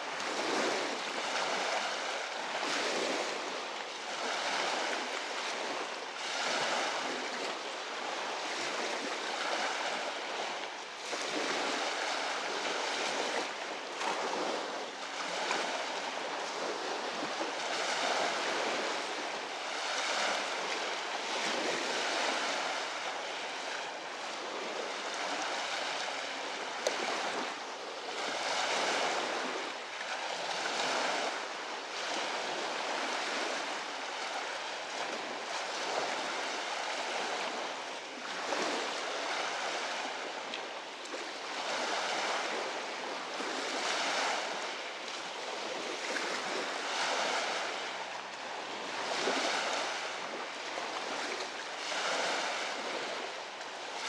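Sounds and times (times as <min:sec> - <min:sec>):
waves washing on pebble shore: 0:00.0 - 0:54.0.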